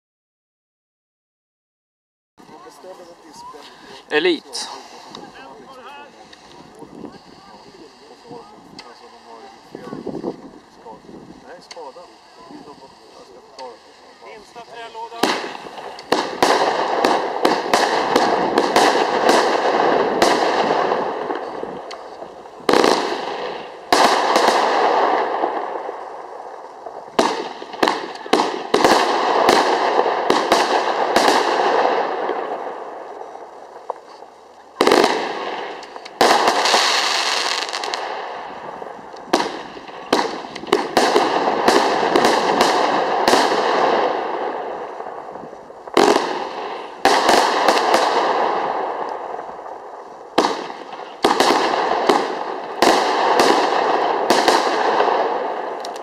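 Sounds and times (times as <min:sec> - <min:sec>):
fireworks bangs: 0:02.4 - 0:56.0
crackle of bursting stars: 0:02.6 - 0:56.0.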